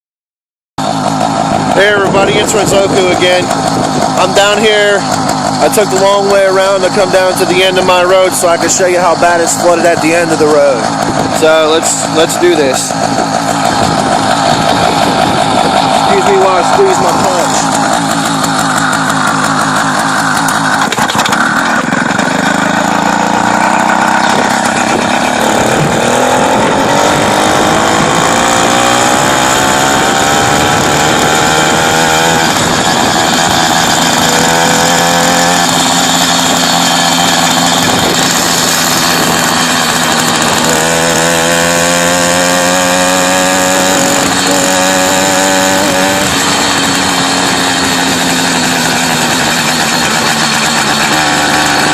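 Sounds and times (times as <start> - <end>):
motorized bicycle engine running: 0.8 - 51.9.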